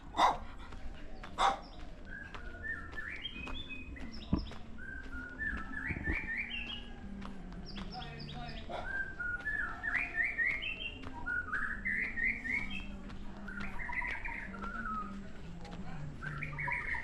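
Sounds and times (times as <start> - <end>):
songbird whistling: 1.4 - 7.0, 7.7 - 15.4, 16.2 - 17.0.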